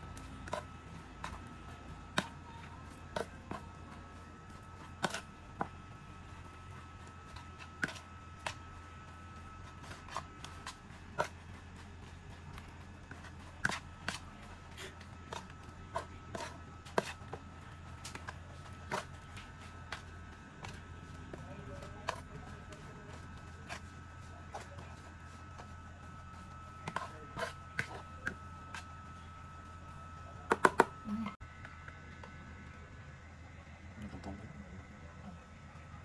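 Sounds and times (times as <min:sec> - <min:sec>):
hand kneading minced meat: 0:00.0 - 0:30.5
low steady hum: 0:00.0 - 0:36.0.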